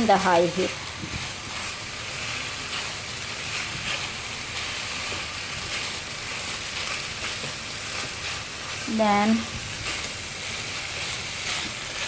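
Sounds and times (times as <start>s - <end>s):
chicken sizzling in a pan: 0.0s - 12.0s
faint stirring ticks: 0.0s - 12.0s.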